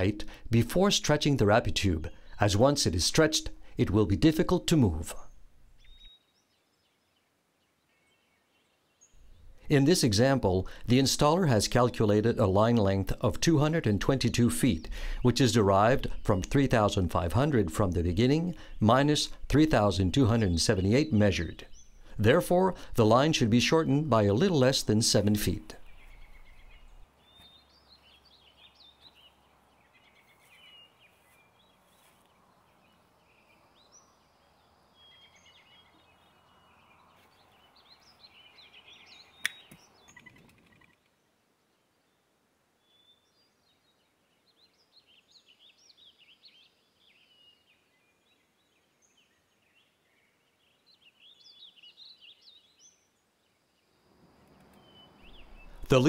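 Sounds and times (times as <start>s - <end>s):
faint birdsong chirps: 0.0s - 56.0s
soft outdoor hiss: 0.0s - 56.0s.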